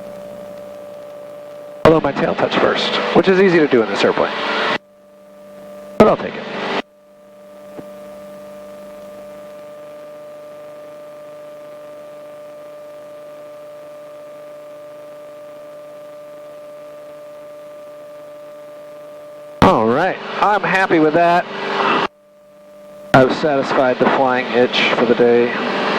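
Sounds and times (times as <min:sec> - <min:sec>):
electrical hum and whine: 0:00.0 - 0:25.9.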